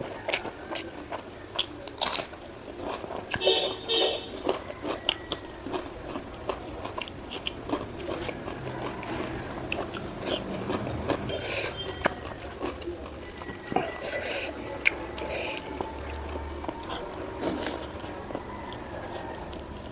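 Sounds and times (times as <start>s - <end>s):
wet chewing with smacking clicks: 0.0s - 19.9s.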